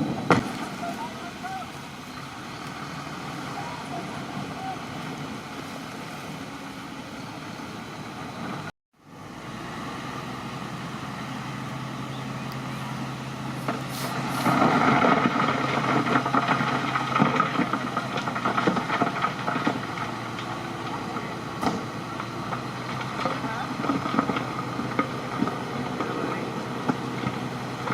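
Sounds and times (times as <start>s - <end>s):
bulldozer diesel engine running: 0.0s - 27.9s.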